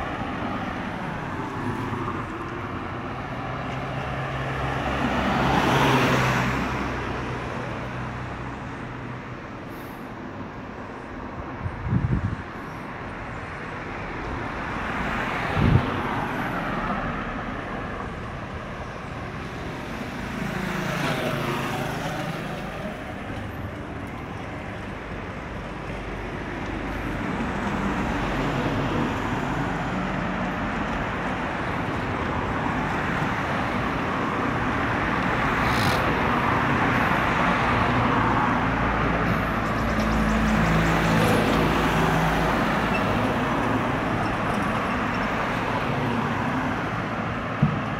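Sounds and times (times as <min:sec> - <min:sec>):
cars driving past: 0:00.0 - 0:47.9.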